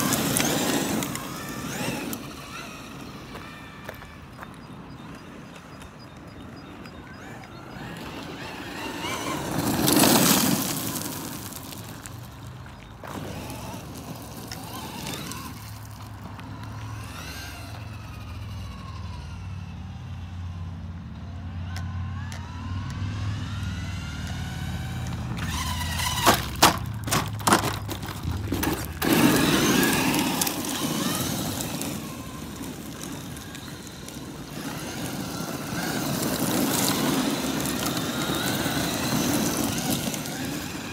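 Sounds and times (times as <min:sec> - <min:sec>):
electric motor whine: 0:00.0 - 0:12.0, 0:12.7 - 0:26.6, 0:27.9 - 0:40.9
tyres crunching on gravel: 0:00.0 - 0:19.3, 0:23.5 - 0:40.9.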